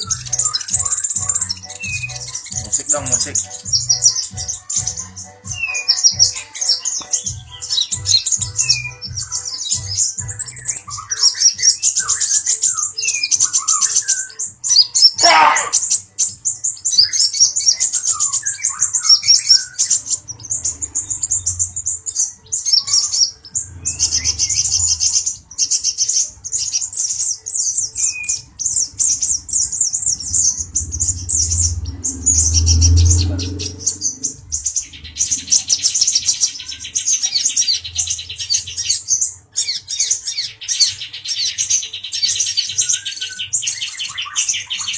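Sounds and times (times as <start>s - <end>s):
sunbird twittering chatter: 0.0s - 44.9s.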